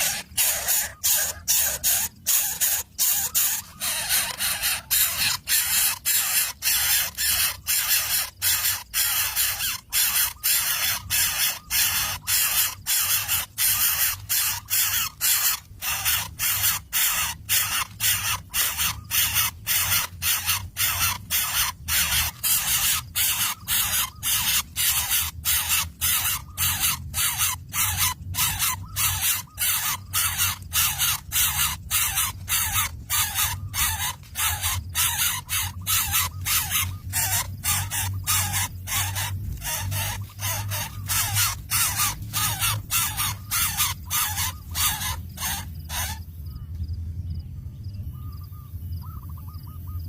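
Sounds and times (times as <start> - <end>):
bird chicks hissing rasps: 0.0 - 46.2.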